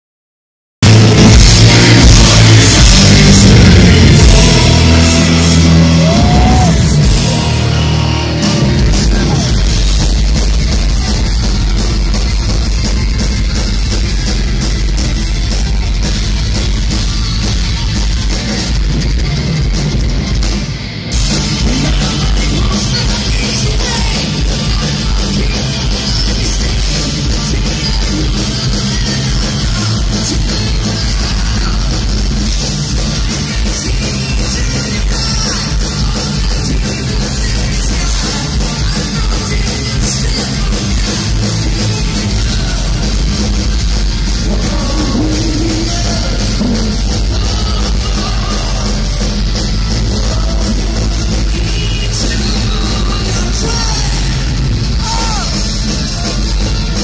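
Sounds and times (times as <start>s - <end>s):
bass: 0.8s - 57.0s
drum kit: 0.8s - 57.0s
electric guitars: 0.8s - 57.0s
man singing: 2.0s - 16.1s, 21.3s - 43.6s, 44.3s - 57.0s.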